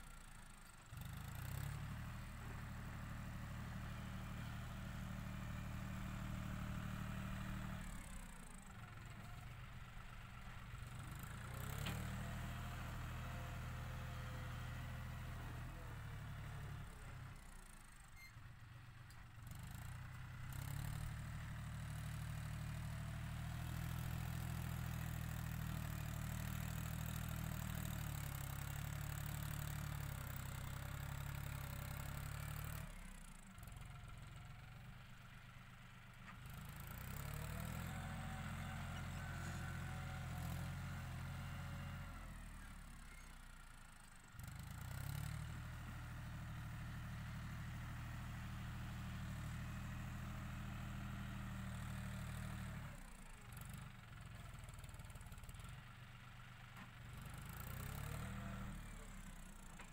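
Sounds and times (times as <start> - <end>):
tractor diesel engine running: 1.3 - 59.9.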